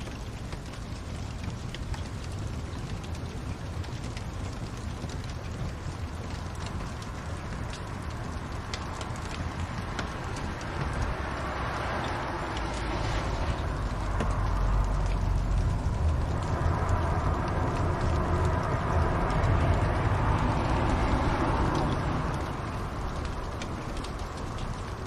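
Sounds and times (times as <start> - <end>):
fire popping: 0.0 - 25.0
wood fire crackling: 0.0 - 25.0
low rumble: 2.5 - 25.0.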